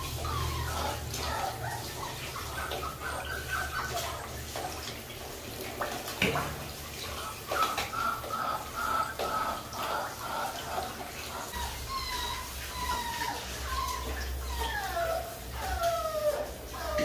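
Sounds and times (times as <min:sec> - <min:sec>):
water splashing into plastic basin: 0:00.0 - 0:15.0
water spraying from shower head: 0:00.0 - 0:16.9.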